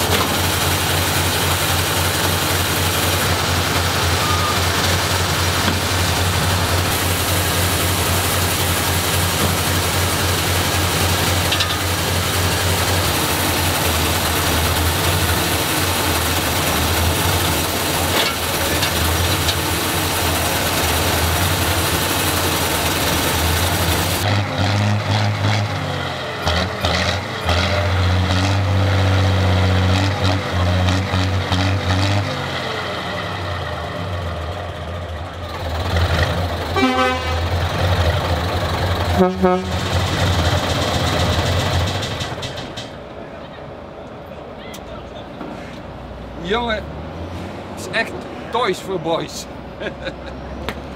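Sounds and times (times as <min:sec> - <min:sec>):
diesel truck engine running: 0:00.0 - 0:50.9.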